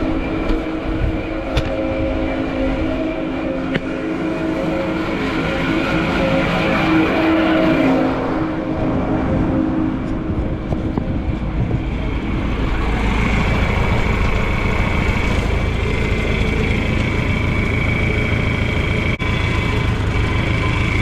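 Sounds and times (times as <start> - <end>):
farm machine engine rumbling: 0.0 - 21.0
high whine: 0.0 - 21.0.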